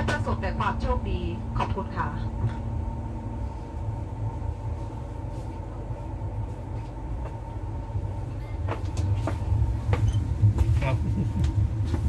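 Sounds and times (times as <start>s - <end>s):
train coach rumbling on rails: 0.0s - 12.0s.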